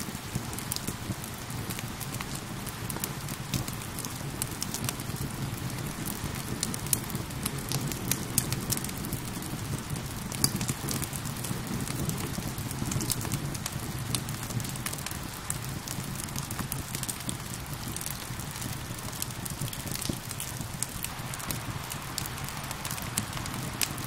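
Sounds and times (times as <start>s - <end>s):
rain falling: 0.0s - 24.0s
wood fire crackling and popping: 0.0s - 24.0s.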